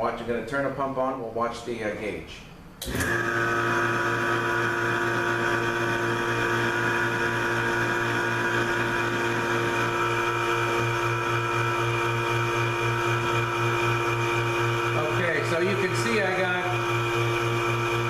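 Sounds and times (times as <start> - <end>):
electric vacuum pump humming: 2.6 - 18.0.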